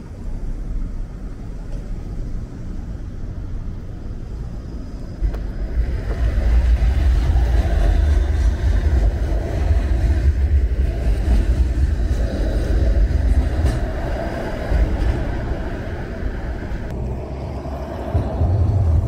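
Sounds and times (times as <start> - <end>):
streetcar wheels rumbling on rails: 0.0 - 19.0.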